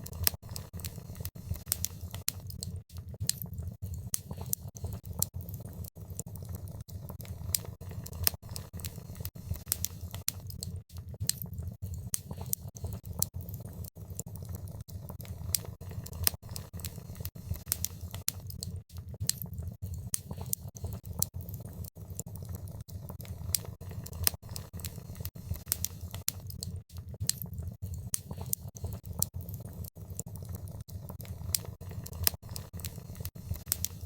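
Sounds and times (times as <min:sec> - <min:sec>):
fire low rumble: 0:00.0 - 0:34.0
wood fire crackling and popping: 0:00.0 - 0:34.0.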